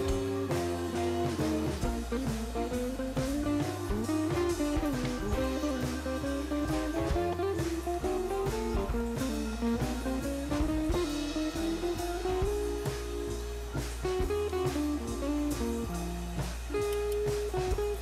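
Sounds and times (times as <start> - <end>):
guitar-led instrumental music: 0.0 - 18.0.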